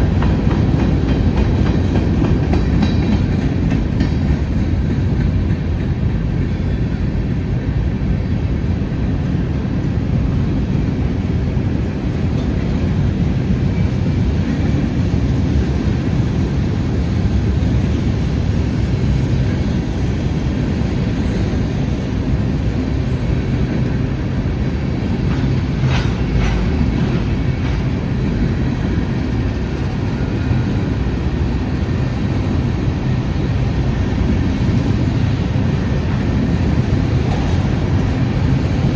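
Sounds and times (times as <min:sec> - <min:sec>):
sharp clicks of train wheels: 0:00.0 - 0:08.6, 0:10.5 - 0:38.9
train wheels rumbling on rail: 0:00.0 - 0:38.9.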